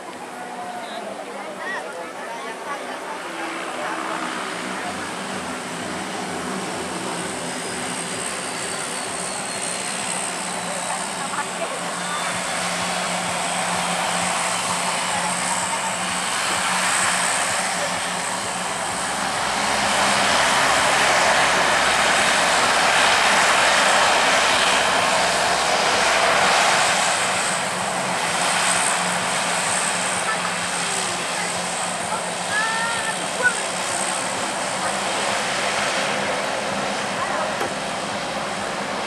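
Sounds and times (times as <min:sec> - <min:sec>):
turboprop engines droning: 0:00.0 - 0:39.0.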